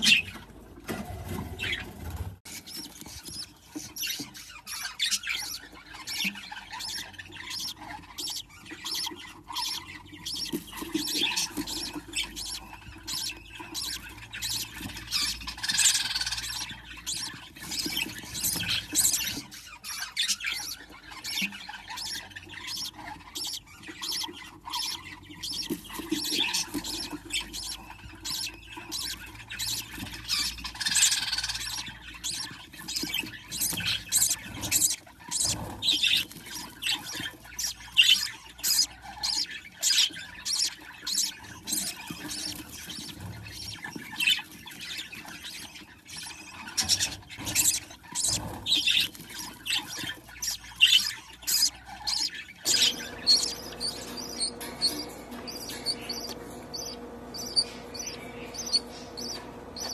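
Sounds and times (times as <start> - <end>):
chicks cheeping: 0.0 - 59.9.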